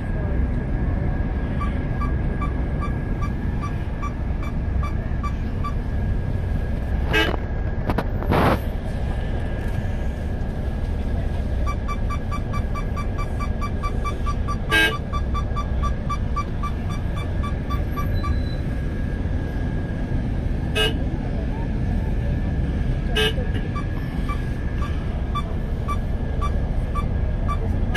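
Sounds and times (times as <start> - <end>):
bus engine rumble: 0.0 - 27.9.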